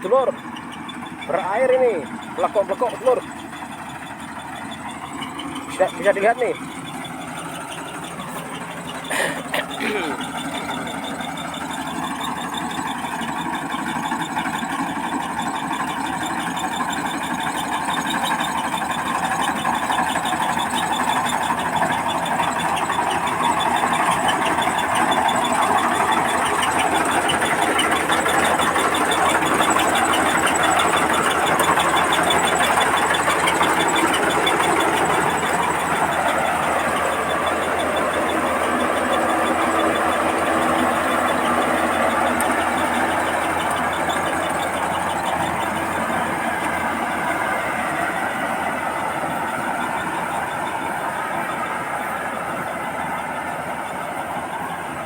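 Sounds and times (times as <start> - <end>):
combine harvester engine hum: 0.0 - 55.0
machinery clattering: 0.0 - 55.0.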